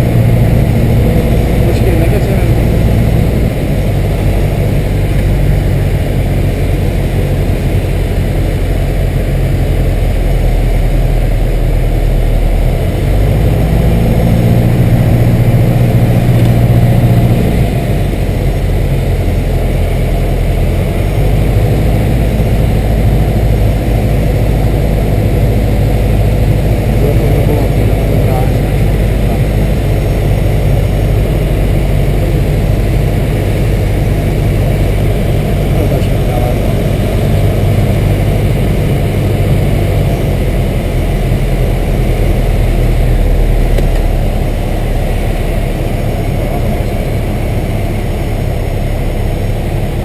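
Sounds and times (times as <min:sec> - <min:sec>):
propeller plane engine droning: 0:00.0 - 0:50.0.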